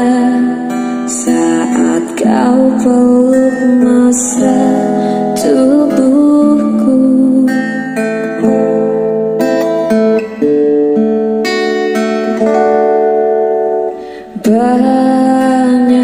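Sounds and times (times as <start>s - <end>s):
acoustic guitar picked: 0.0s - 16.0s
strummed guitar chord: 0.0s - 16.0s.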